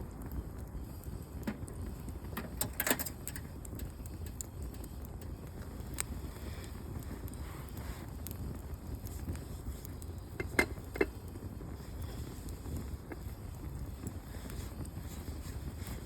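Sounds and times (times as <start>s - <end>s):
campfire crackling: 0.0s - 16.0s
sharp pops of fire: 0.0s - 16.0s
wind rumble on microphone: 0.0s - 16.0s.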